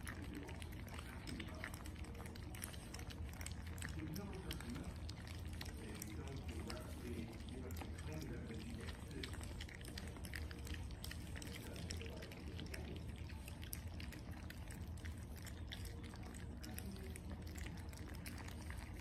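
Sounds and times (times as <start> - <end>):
puppies lapping and slurping: 0.0 - 19.0.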